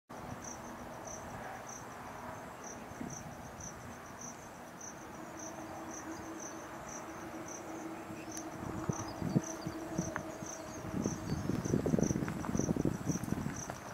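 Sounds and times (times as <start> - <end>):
insect chirping: 0.1 - 13.9.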